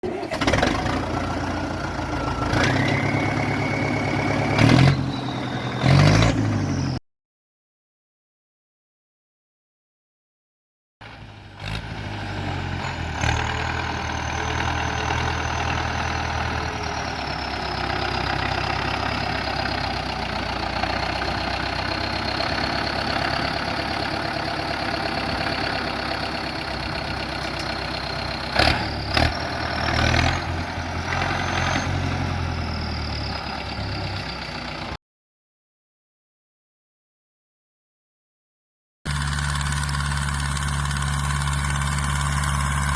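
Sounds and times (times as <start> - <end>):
tractor diesel engine running: 0.0 - 7.0, 11.0 - 35.0, 39.1 - 42.9.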